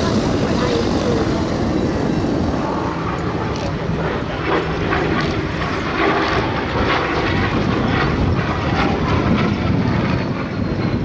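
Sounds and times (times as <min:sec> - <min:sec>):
propeller plane engine passing: 0:00.0 - 0:11.0.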